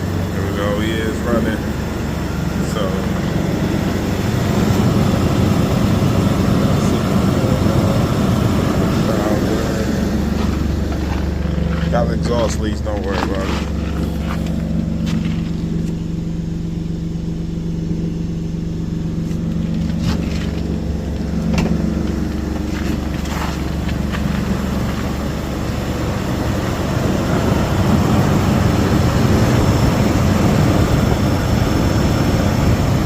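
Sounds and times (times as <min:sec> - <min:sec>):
car engine running: 0:00.0 - 0:33.0.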